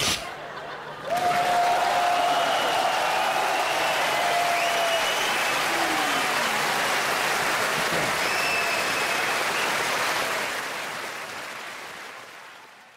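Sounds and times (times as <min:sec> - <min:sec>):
audience clapping: 0:00.9 - 0:12.9.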